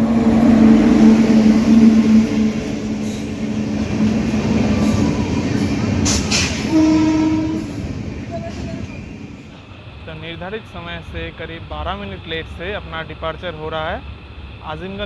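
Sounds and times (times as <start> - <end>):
electric locomotive hum: 0.0 - 15.0
train wheels rumbling on rails: 0.0 - 15.0.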